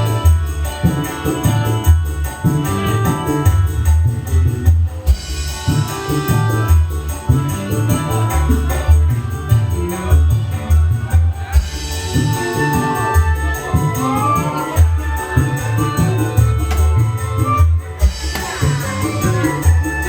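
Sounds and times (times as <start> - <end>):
gliding melody line: 0.0 - 20.0
hand drum beat: 0.0 - 20.0.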